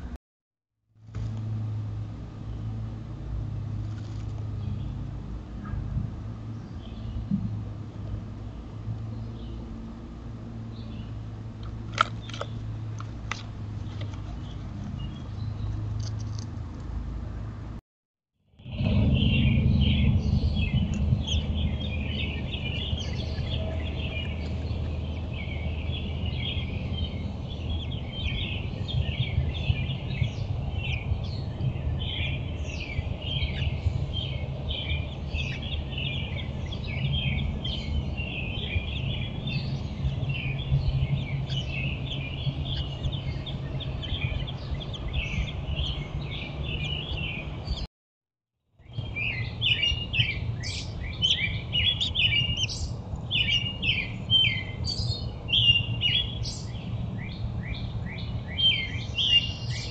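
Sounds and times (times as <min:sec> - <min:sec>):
birds chirping and singing: 0:05.6 - 0:09.9, 0:12.0 - 0:16.4, 0:18.6 - 0:47.9, 0:48.8 - 0:59.9.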